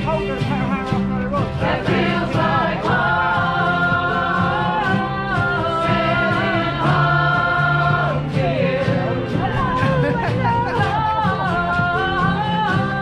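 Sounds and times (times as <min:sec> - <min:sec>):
strummed acoustic guitars: 0:00.0 - 0:13.0
group singing in harmony: 0:01.5 - 0:13.0.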